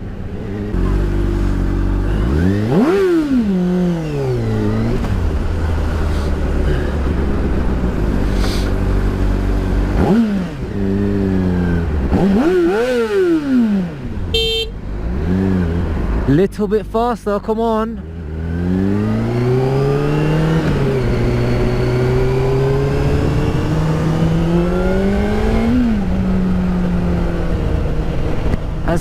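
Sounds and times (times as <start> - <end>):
motorcycle engine revving: 0.0 - 16.4, 18.0 - 29.0.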